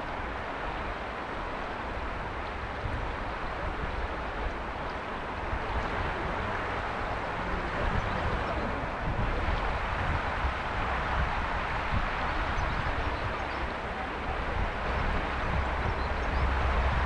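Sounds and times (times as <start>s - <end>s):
mountain river rushing: 0.0s - 17.0s.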